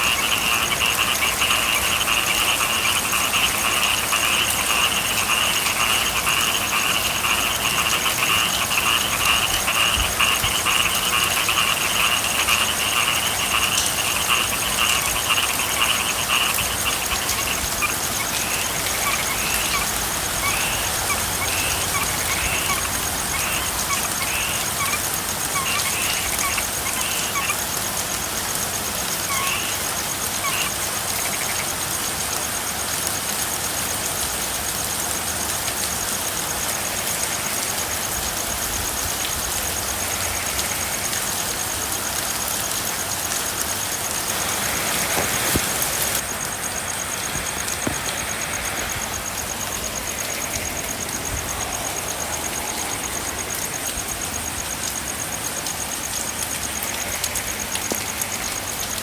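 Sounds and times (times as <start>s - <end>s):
frog chirps: 0.0s - 31.9s, 40.0s - 59.0s
steady rain: 0.0s - 59.0s.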